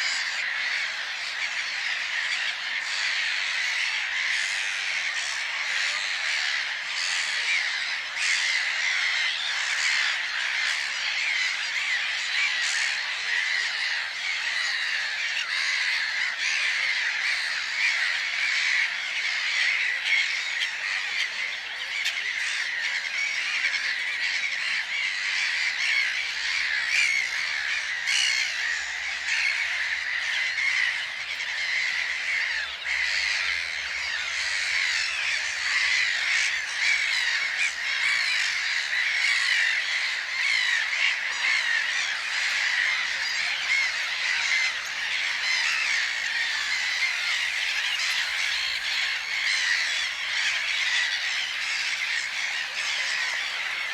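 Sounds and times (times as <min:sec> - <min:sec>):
chorus of bird calls: 0:00.0 - 0:53.9.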